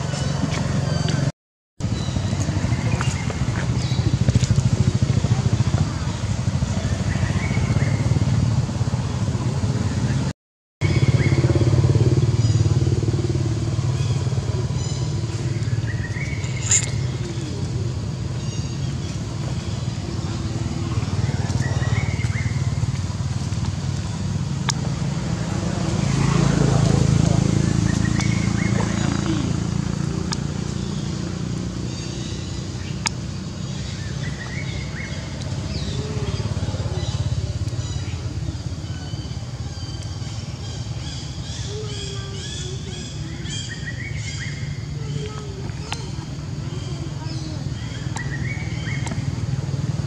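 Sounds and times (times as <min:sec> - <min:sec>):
low engine rumble: 0:00.0 - 0:50.0.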